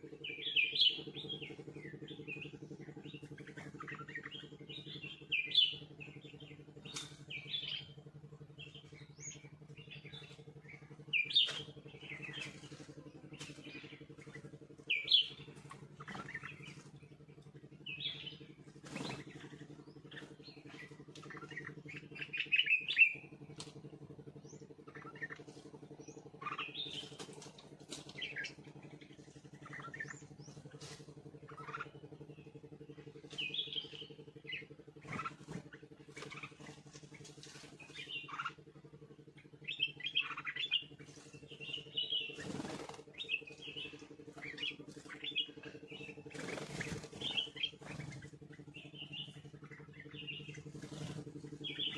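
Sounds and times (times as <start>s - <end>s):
small birds chirping: 0.0s - 51.9s
steady low hum: 0.0s - 51.9s.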